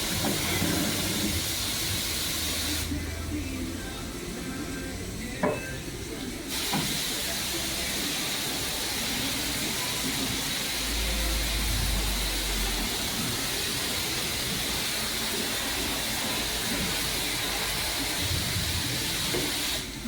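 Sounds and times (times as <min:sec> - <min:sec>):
water spray hissing: 0:00.0 - 0:03.2, 0:06.4 - 0:20.0.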